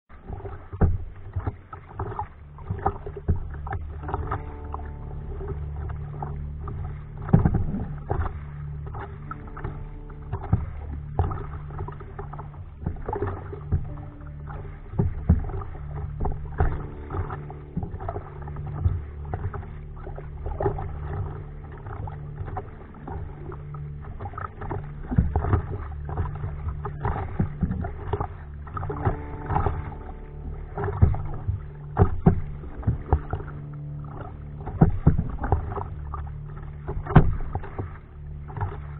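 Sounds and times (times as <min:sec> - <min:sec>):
paddle splashing water: 0:00.1 - 0:38.9
steady low hum: 0:00.1 - 0:38.9.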